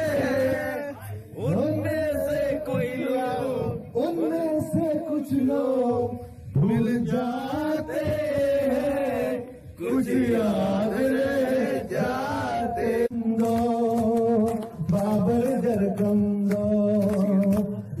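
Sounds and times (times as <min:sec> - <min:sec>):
man singing into microphone: 0:00.0 - 0:11.4, 0:12.0 - 0:18.0.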